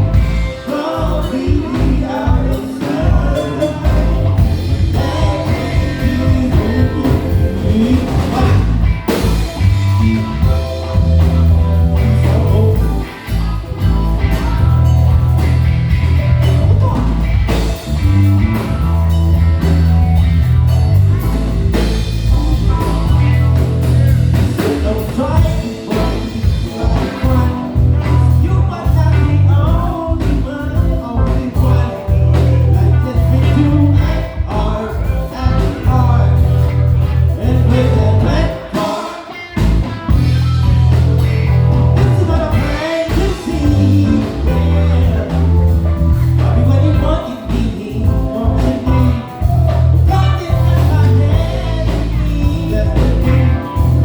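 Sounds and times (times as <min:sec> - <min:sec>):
live blues-rock band playing: 0:00.0 - 0:54.0.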